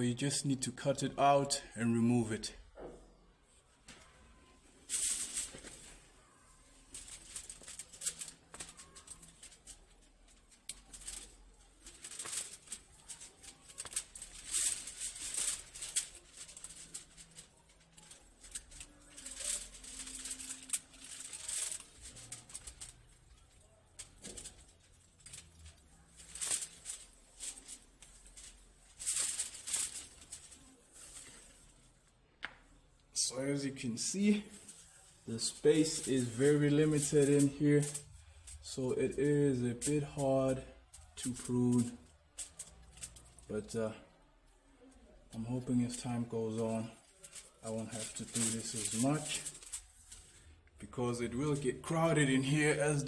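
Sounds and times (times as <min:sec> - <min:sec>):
plant leaves rustling and crackling: 0:02.5 - 0:53.0.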